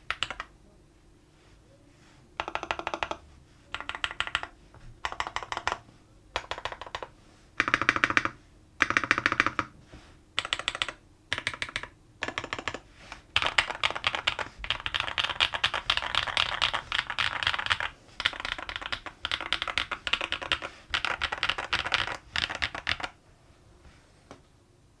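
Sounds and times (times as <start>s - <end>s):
mechanical keyboard typing: 0.0s - 0.5s, 2.4s - 5.8s, 6.4s - 9.7s, 10.4s - 23.2s.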